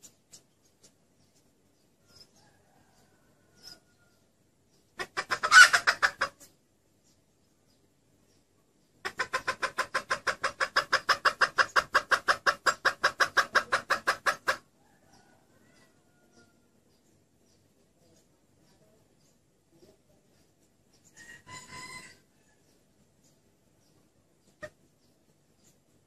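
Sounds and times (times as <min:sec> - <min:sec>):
hen clucking: 0:00.0 - 0:07.2, 0:08.3 - 0:26.0.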